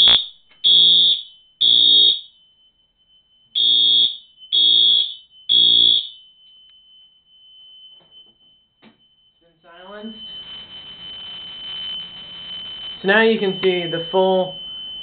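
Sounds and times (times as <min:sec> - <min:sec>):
fire alarm horn blasts: 0:00.0 - 0:15.0.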